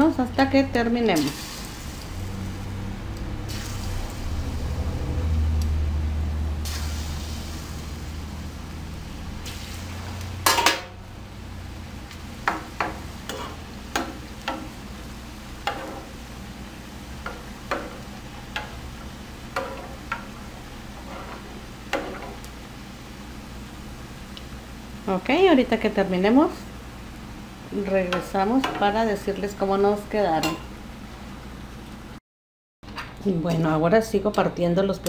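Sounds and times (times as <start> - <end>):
plantain slices sizzling in oil: 0.0 - 31.3.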